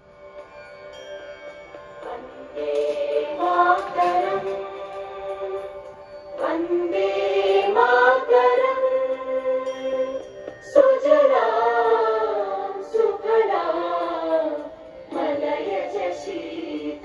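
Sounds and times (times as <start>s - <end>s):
choir singing long notes: 2.0s - 17.0s.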